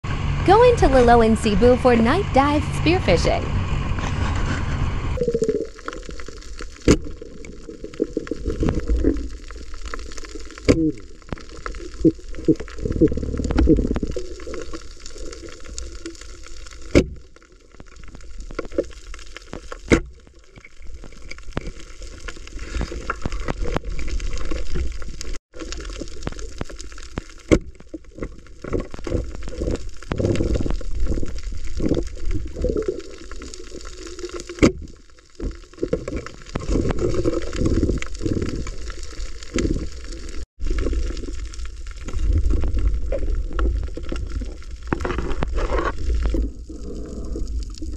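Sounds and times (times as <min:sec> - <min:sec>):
underwater bubbling and gurgling: 0:03.6 - 0:47.9.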